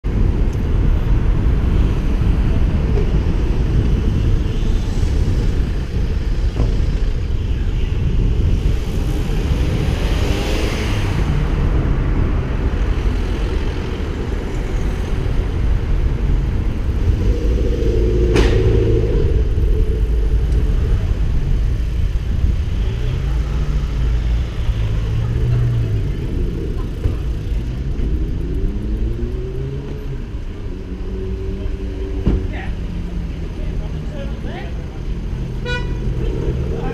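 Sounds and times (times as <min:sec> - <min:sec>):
vehicle engine and road noise: 0:00.0 - 0:36.9.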